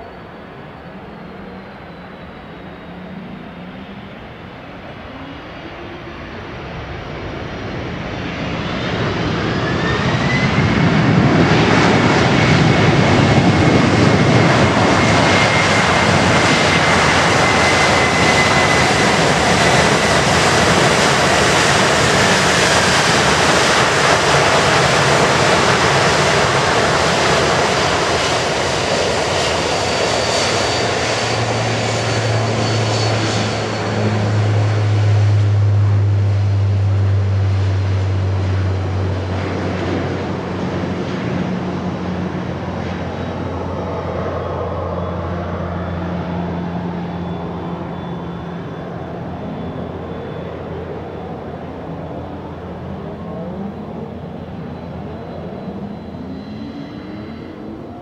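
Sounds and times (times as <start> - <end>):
jet engine roar: 0.0 - 58.0
jet engine whine: 0.0 - 58.0
low hum: 0.0 - 58.0.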